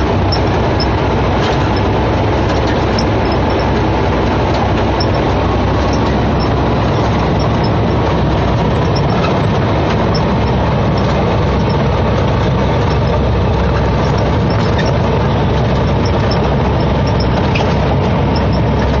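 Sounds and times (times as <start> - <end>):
road noise: 0.0 - 19.0
truck diesel engine drone: 0.0 - 19.0.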